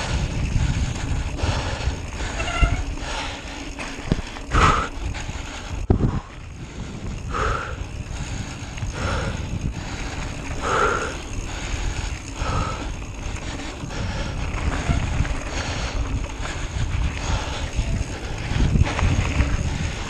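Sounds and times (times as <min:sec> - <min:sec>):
cyclist heavy breathing: 0:00.0 - 0:20.0
wind rumble on microphone: 0:00.0 - 0:20.0.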